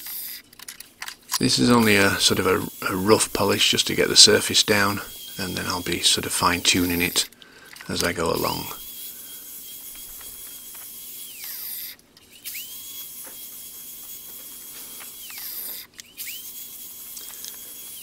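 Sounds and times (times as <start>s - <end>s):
angle grinder whine: 1.3s - 18.0s.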